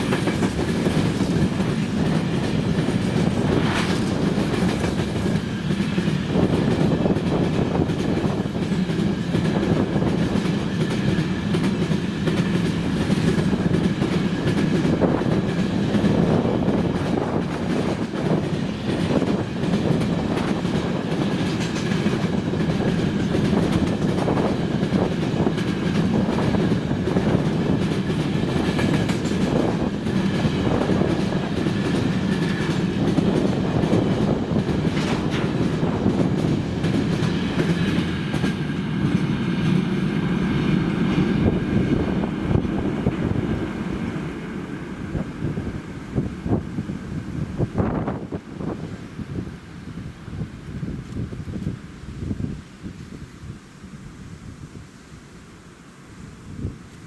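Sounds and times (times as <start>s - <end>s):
freight train wheels clattering: 0.0s - 49.3s.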